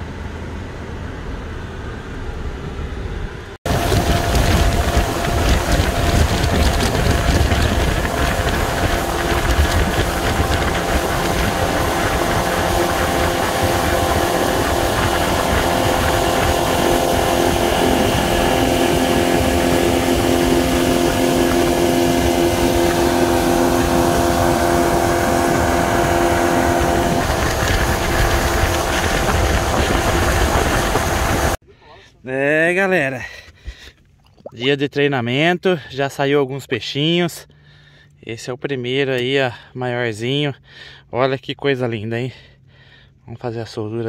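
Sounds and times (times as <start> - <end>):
outboard motor droning: 0.0 - 32.2, 37.0 - 41.1, 41.9 - 43.3.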